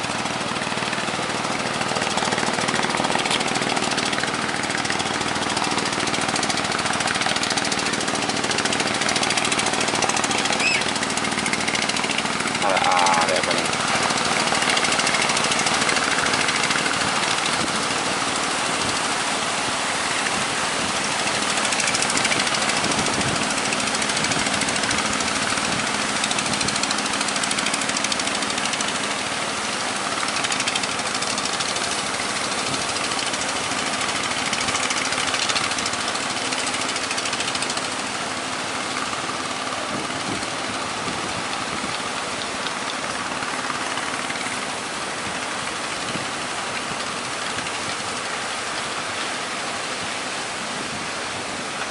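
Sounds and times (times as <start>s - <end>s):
boat engine running: 0.0s - 51.9s
wind and sea hiss: 0.0s - 51.9s.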